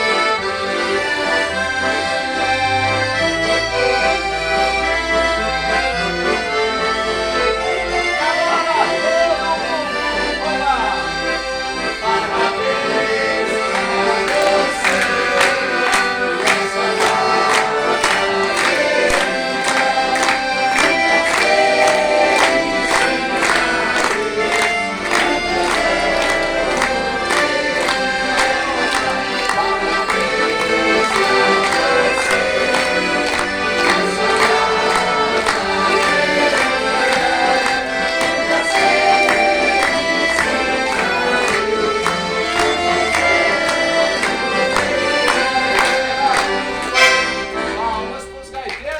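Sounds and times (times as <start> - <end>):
accordions playing a tune: 0.0 - 48.9.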